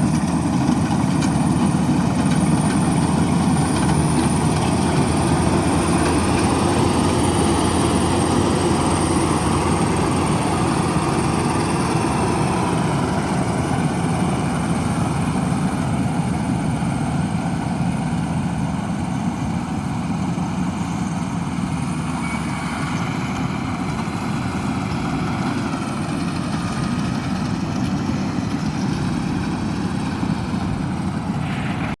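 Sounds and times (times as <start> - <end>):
combine harvester droning: 0.0 - 32.0.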